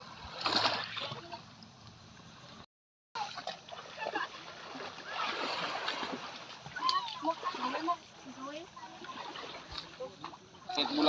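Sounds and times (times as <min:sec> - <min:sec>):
water splashing and trickling: 0:00.0 - 0:02.6, 0:03.2 - 0:11.0.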